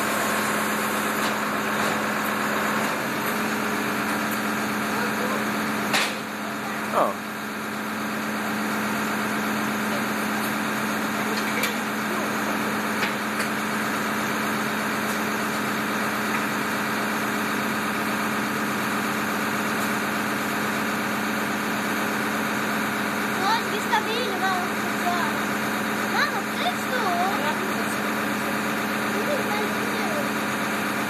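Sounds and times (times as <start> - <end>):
fire engine motor idling: 0.0 - 31.0.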